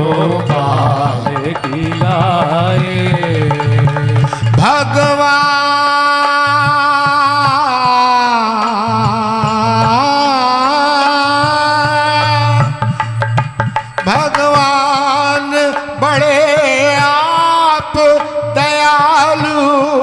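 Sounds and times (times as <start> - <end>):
dholak drumming: 0.0 - 20.0
sliding held melody line: 0.0 - 20.0.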